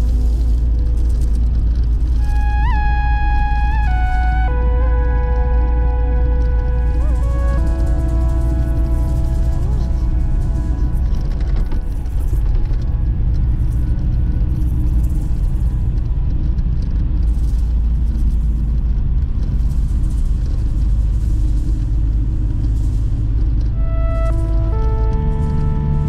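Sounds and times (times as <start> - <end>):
car driving rumble inside cabin: 0.0 - 26.0.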